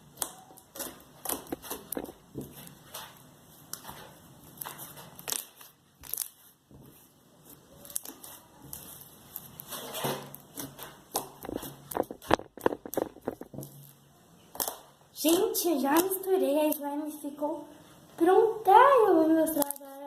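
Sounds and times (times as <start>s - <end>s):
hands kneading slime: 0.0s - 16.9s.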